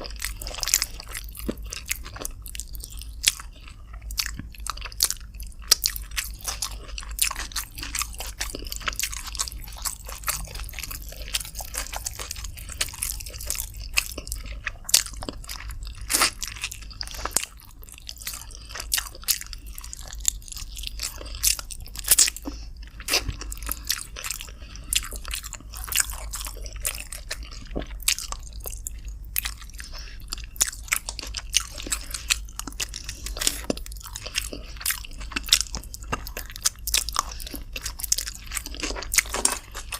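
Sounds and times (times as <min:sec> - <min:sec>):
low steady hum: 0:00.0 - 0:39.9
person chewing: 0:00.0 - 0:39.9.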